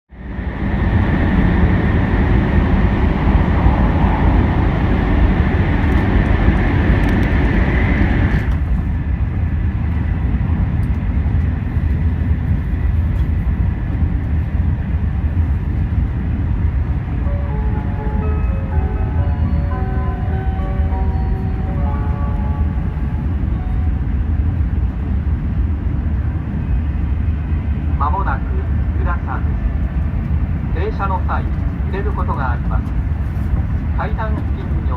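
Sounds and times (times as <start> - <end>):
train interior low rumble: 0.1 - 34.9.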